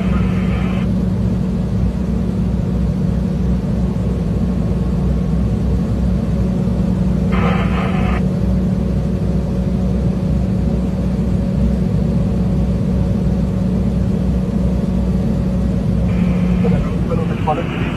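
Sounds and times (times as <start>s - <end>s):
crane engine droning: 0.0s - 17.9s.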